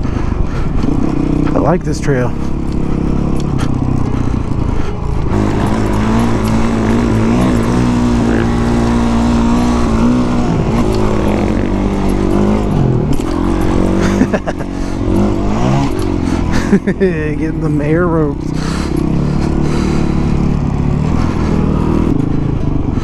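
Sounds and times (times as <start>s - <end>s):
dirt bike engine: 0.0s - 23.0s.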